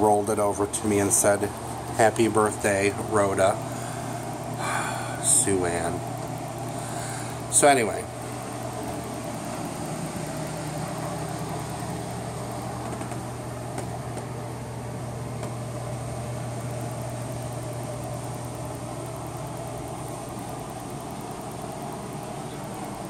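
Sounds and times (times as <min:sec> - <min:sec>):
appliance humming with rushing air: 0:00.0 - 0:23.0.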